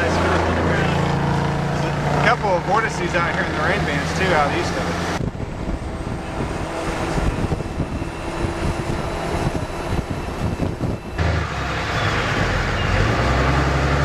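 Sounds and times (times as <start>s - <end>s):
wind gusting against microphone: 0.0s - 13.6s
road noise from moving vehicle: 0.0s - 14.0s.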